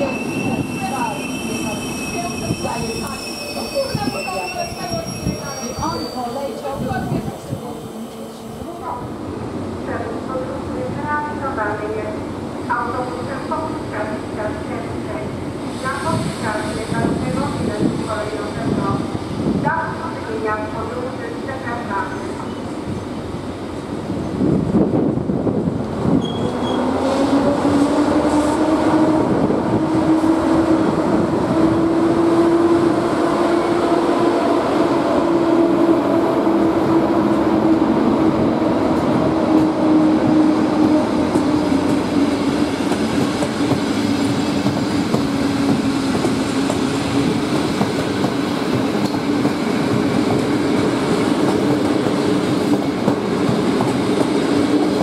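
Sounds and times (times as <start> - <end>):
steady locomotive hum: 0.0 - 55.0.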